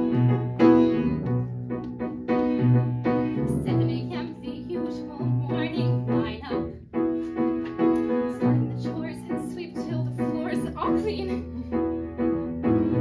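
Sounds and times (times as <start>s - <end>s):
grand piano chords: 0.0s - 13.0s.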